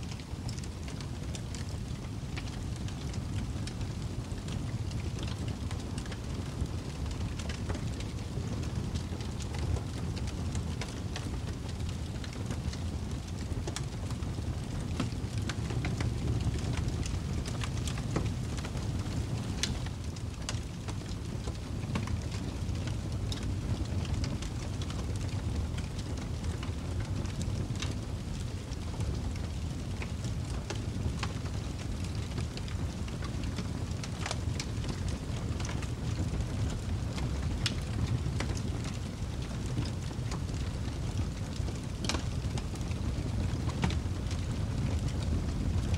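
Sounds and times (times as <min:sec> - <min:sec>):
rain rumble: 0:00.0 - 0:45.9
small crackles and ticks: 0:00.0 - 0:45.9.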